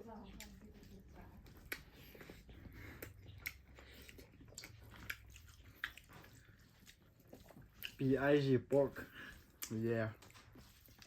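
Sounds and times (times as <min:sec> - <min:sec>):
faint chewing clicks and smacks: 0:00.0 - 0:11.0.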